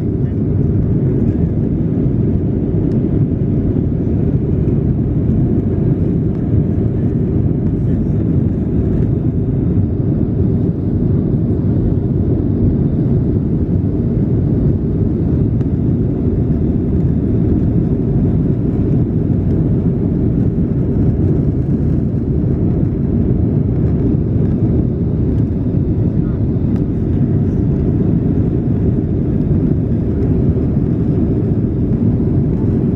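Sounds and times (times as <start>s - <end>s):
jet engine and airflow rumble: 0.0s - 32.9s.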